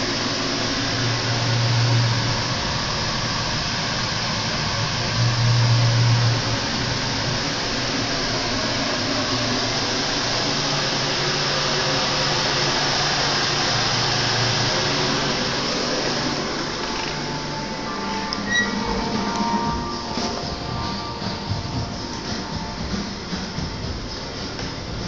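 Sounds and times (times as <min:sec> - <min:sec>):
low hum: 0:00.0 - 0:25.0
ventilation fan rushing: 0:00.0 - 0:25.0.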